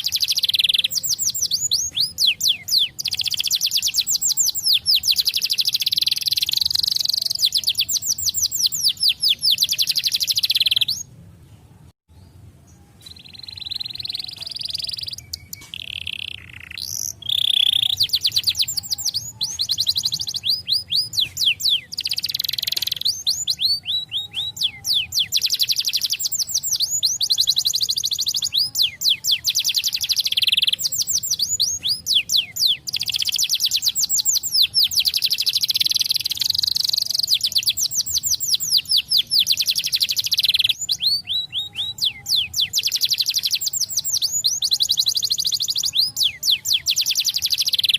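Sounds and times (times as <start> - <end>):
canary singing trills: 0.0 - 11.1, 12.1 - 47.9.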